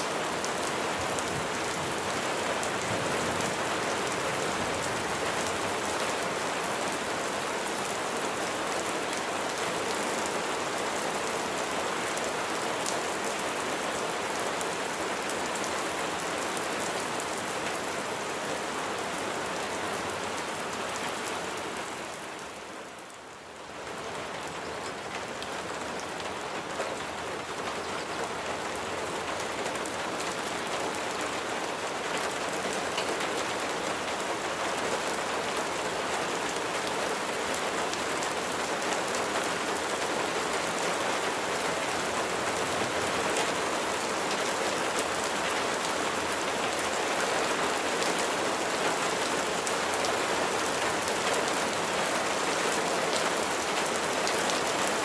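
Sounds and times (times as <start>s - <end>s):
dense rain pattering: 0.0s - 55.0s.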